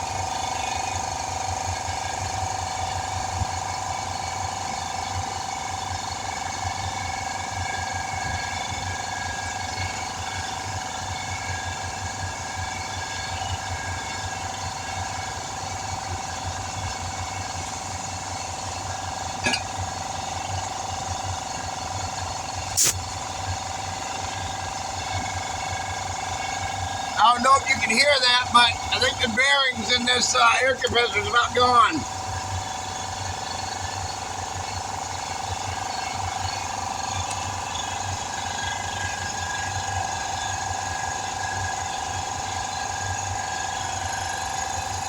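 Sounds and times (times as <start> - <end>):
air compressor chugging and whining: 0.0 - 45.0.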